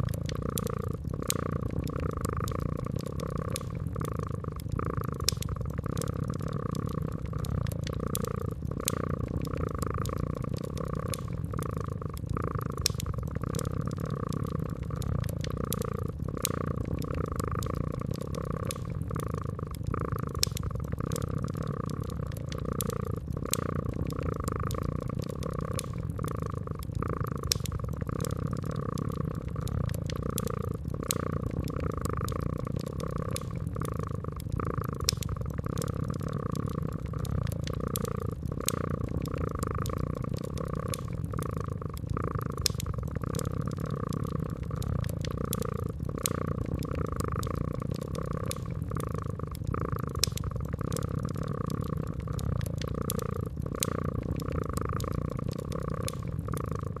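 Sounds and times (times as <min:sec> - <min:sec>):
cat purring: 0:00.0 - 0:57.0
wood fire crackling: 0:00.0 - 0:57.0.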